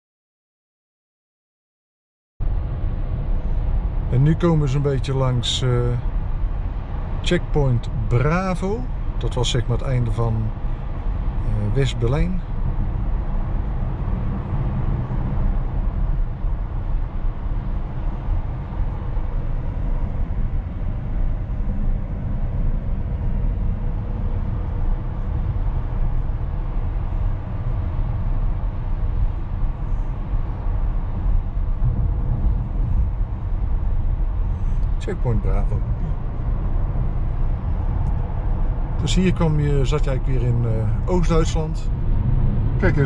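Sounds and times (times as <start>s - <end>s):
tyre and road noise in car cabin: 2.4s - 43.0s.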